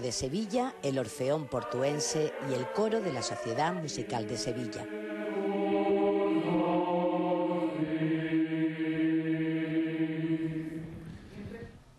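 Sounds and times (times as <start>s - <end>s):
choir singing sustained chords: 0.0s - 11.4s.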